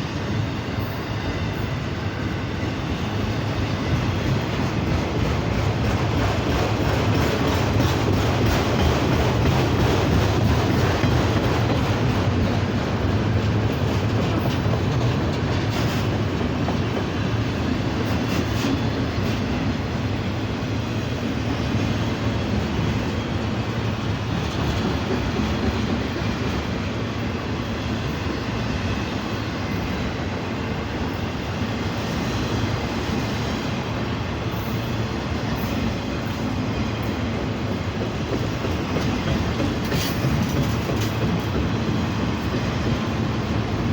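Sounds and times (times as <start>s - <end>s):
freight train wheels on rail: 0.0s - 43.9s.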